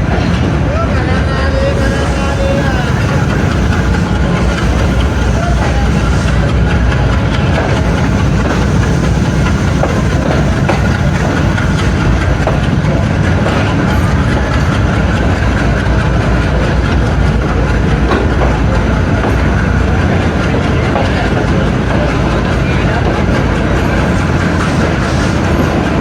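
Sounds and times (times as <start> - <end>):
coaches rumbling: 0.0 - 26.0
diesel locomotive engine drone: 0.0 - 26.0
wheels clicking on rails: 0.0 - 26.0.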